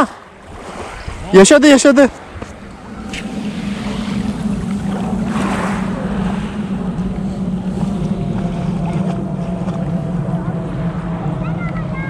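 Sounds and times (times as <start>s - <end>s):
wind on microphone: 0.3s - 12.0s
steady low drone: 2.1s - 12.0s.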